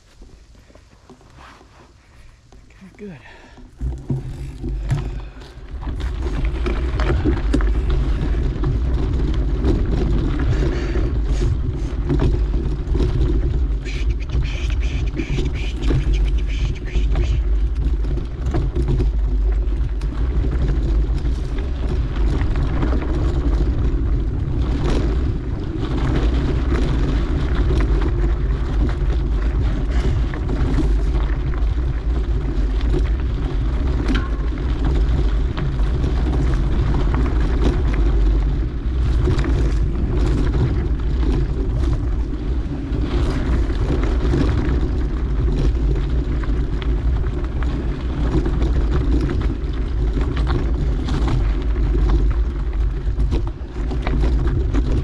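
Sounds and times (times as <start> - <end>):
bike rattling and clicking: 0.0 - 55.0
tyres rumbling on dirt: 0.0 - 55.0
wind noise: 0.0 - 55.0.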